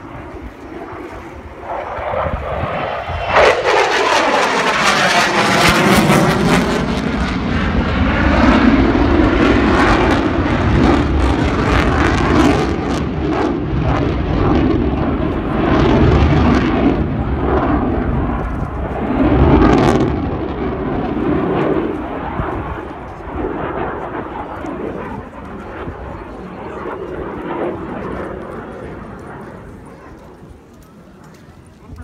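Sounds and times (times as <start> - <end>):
fighter jet engine roar: 0.0 - 32.0.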